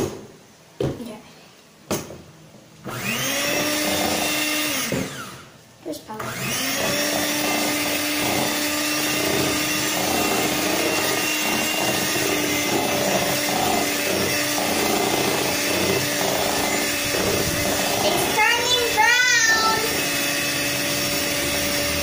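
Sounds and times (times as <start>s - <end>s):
beaters churning thick batter: 2.9s - 5.4s, 6.2s - 22.0s
electric hand mixer running: 2.9s - 5.5s, 6.2s - 22.0s.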